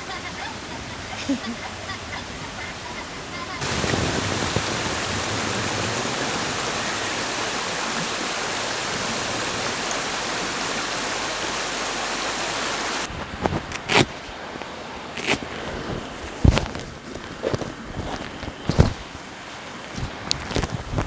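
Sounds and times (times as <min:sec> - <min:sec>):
water rushing: 0:00.0 - 0:20.5.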